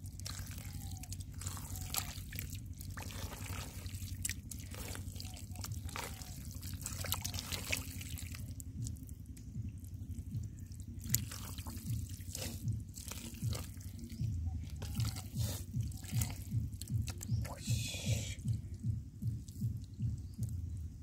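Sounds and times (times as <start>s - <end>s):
shallow water splashing: 0.0s - 20.8s
soft low pulses: 0.0s - 21.0s.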